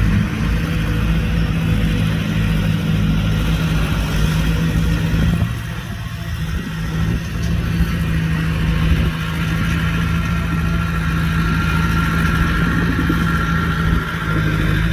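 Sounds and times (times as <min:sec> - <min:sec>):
heavy diesel engine running: 0:00.0 - 0:14.9.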